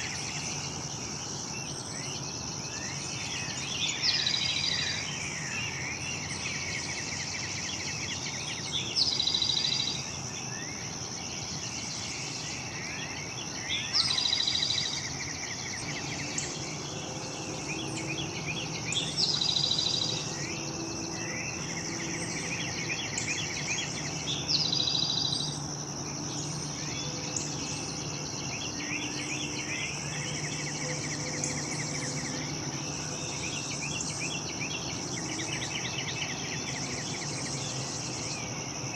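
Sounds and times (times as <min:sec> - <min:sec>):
insects droning: 0:00.0 - 0:38.9
songbird singing a trill: 0:00.0 - 0:38.9.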